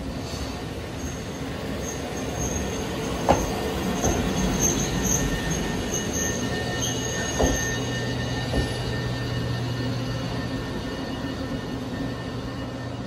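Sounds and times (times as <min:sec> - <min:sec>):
train rolling rumble: 0:00.0 - 0:13.0
train wheels squealing: 0:00.1 - 0:13.0.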